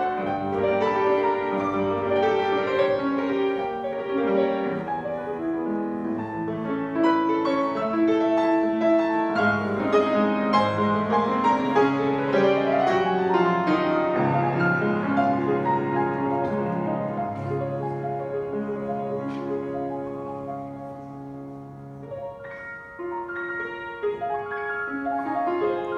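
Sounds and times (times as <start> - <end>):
grand piano playing: 0.0 - 25.9.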